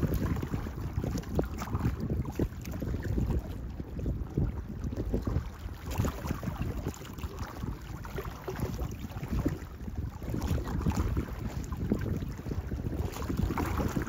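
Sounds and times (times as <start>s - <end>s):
small waves splashing: 0.0s - 14.0s
wind buffeting microphone: 0.0s - 14.0s.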